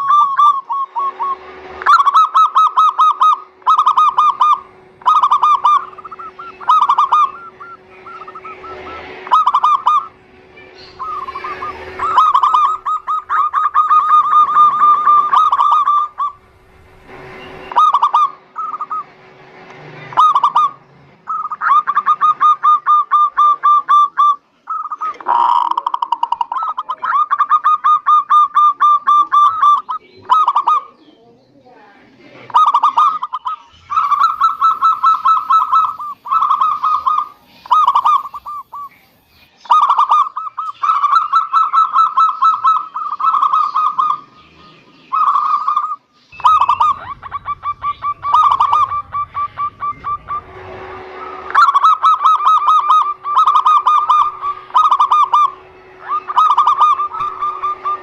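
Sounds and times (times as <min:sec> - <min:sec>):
dove cooing: 0:00.0 - 0:10.2, 0:10.8 - 0:16.5, 0:17.6 - 0:19.1, 0:20.1 - 0:31.1, 0:32.5 - 0:39.0, 0:39.6 - 0:58.0.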